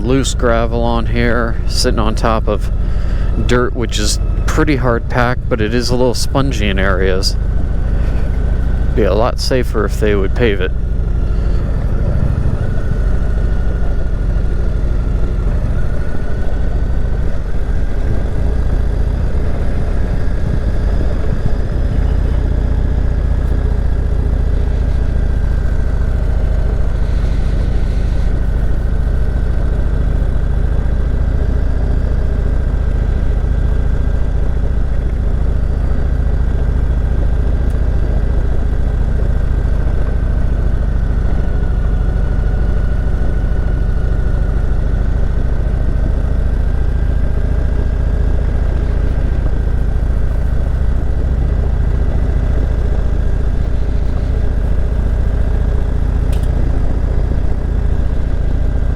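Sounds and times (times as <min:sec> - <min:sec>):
motorcycle engine at low speed: 0:00.0 - 0:58.9.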